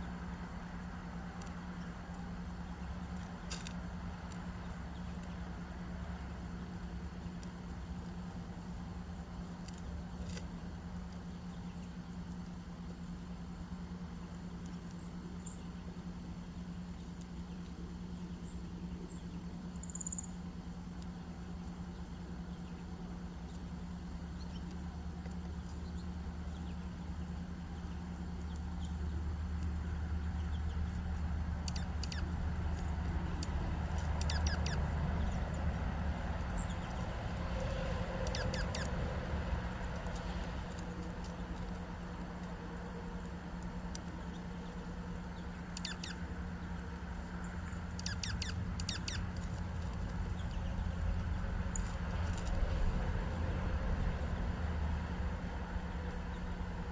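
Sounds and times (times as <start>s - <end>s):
small birds chirping: 0.0s - 53.1s
steady low hum: 0.0s - 56.9s.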